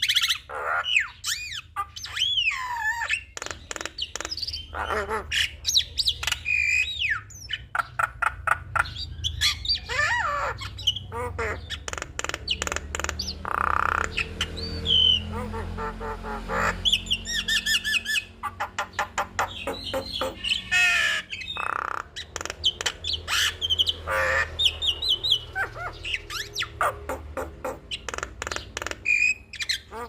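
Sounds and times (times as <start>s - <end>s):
bird singing varied song: 0.0s - 30.0s.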